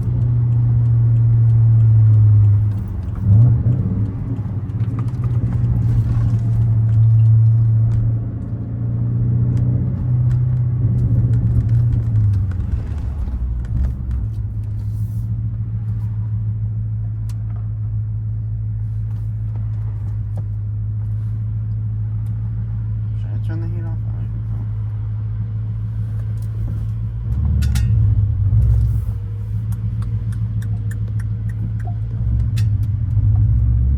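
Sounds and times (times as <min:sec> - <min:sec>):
car engine droning at low revs: 0:00.0 - 0:33.9.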